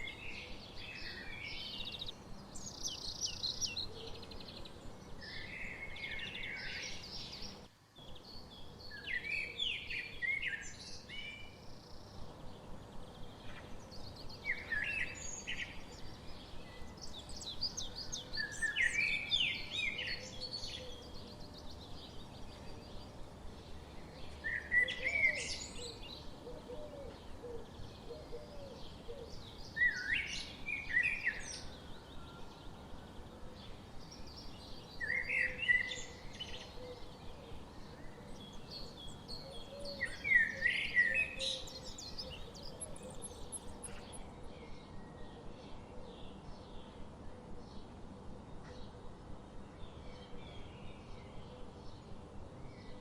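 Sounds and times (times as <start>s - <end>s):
songbirds singing and chirping: 0.0s - 53.0s
steady background hiss: 0.0s - 53.0s.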